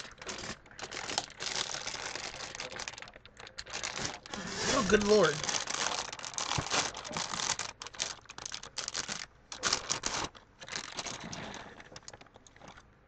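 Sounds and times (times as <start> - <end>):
plastic bag tearing and crinkling: 0.0 - 12.8.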